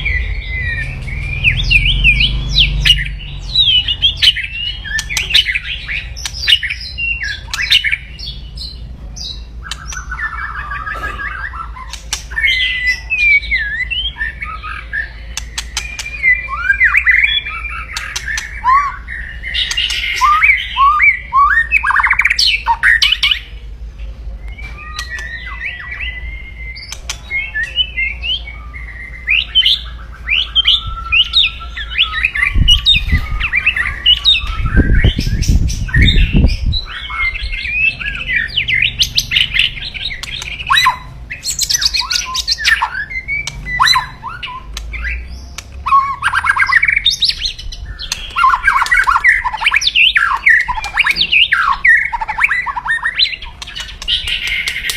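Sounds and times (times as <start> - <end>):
songbird whistles and trills: 0.0 - 23.6, 24.3 - 54.9.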